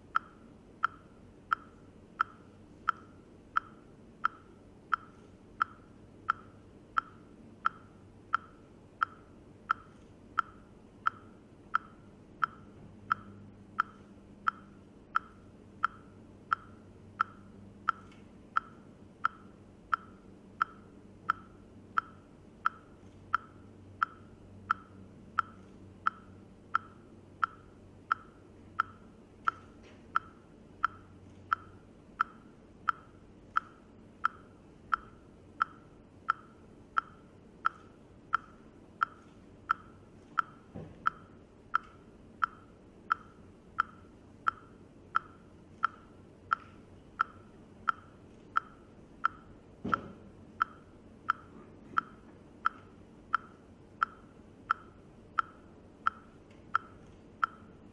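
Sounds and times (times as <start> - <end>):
metronome ticking: 0.0 - 57.9.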